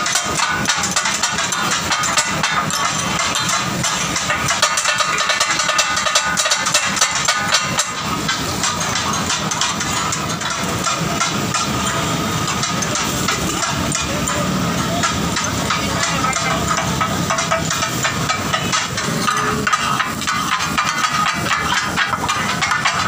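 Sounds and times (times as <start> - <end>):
steam hissing: 0.0 - 23.0
steel blades clattering on griddle: 0.0 - 23.0.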